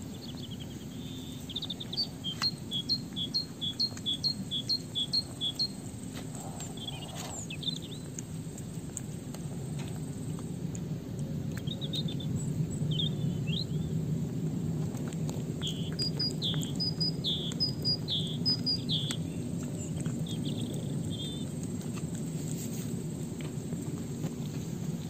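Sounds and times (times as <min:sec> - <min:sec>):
songbird chirping: 0:00.0 - 0:10.5, 0:11.2 - 0:14.0, 0:15.1 - 0:22.9
steady low rumble: 0:00.0 - 0:25.0.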